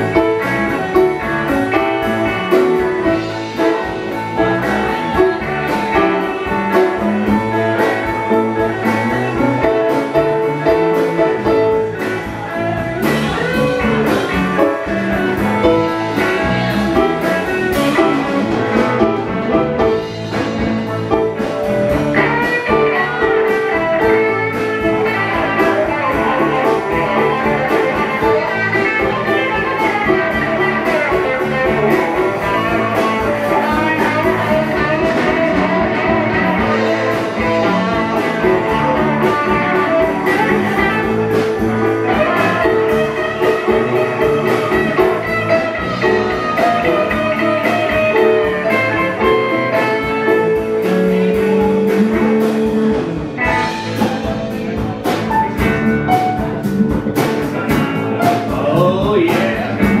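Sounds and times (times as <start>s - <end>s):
live band playing: 0.0s - 60.0s.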